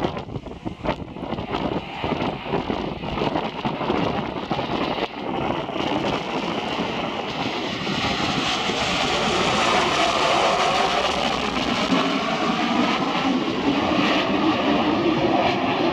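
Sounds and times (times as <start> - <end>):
jet engine noise: 0.0 - 15.9
wind buffeting microphone: 0.0 - 15.9.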